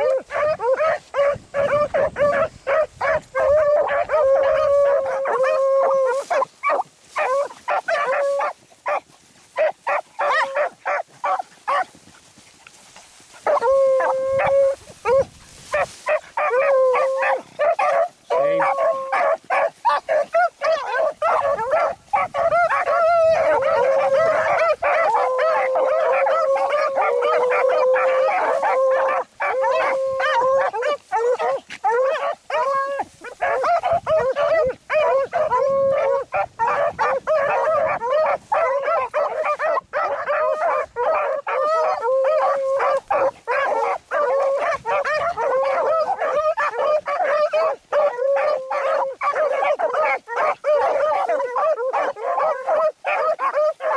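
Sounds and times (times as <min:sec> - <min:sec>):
dogs baying: 0:00.0 - 0:12.2, 0:13.1 - 0:53.9.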